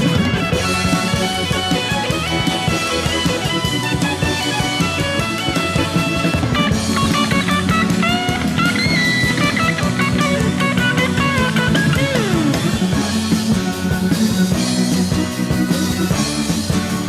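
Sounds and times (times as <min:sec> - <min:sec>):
bass line: 0:00.0 - 0:17.0
drums: 0:00.0 - 0:17.0
electric guitar lead: 0:00.0 - 0:17.0.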